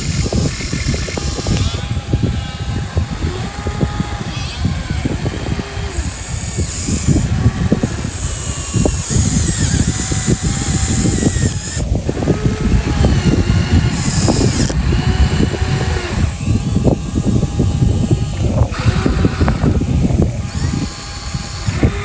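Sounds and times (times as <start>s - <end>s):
bursts of high hiss: 0.0s - 22.0s
small electric motors whining: 0.0s - 22.0s.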